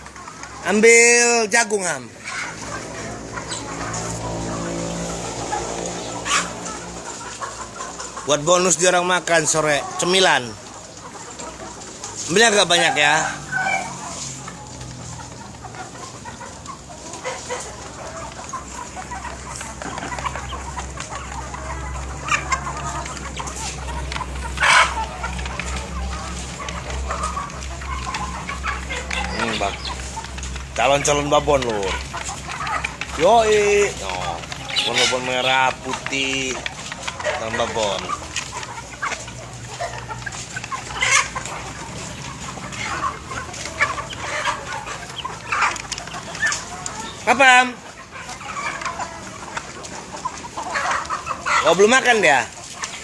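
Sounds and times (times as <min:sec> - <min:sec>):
hens clucking: 0:00.0 - 0:53.0.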